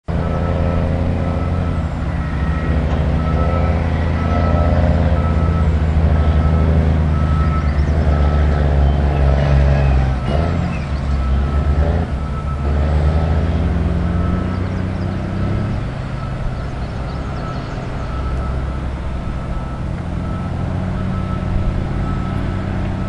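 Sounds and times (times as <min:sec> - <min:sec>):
diesel engine running: 0:00.0 - 0:23.0
backup alarm beeping: 0:00.2 - 0:09.1, 0:10.0 - 0:14.8, 0:15.5 - 0:22.5.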